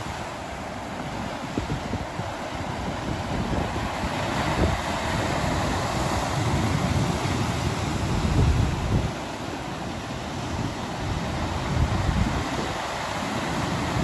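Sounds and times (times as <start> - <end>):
ocean surf breaking: 0.0 - 14.0
wind rumbling on microphone: 0.0 - 14.0.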